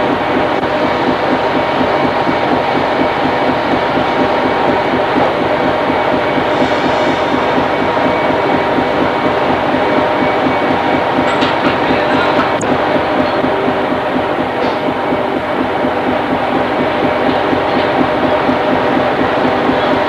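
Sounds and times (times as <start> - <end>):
pulsing machinery running: 0.0 - 20.0.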